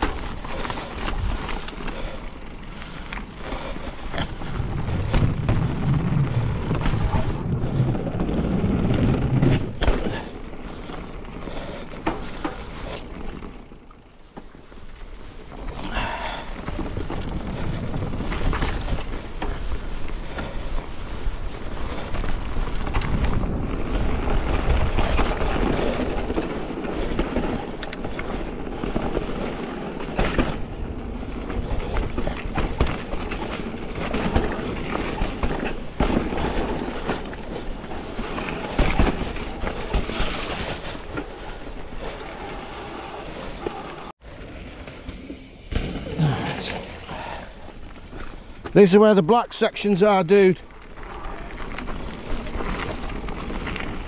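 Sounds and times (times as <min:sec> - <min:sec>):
bike rattling and knocking: 0:00.0 - 0:44.1, 0:50.0 - 0:54.0
bike tyres rumbling over stones: 0:00.0 - 0:54.0.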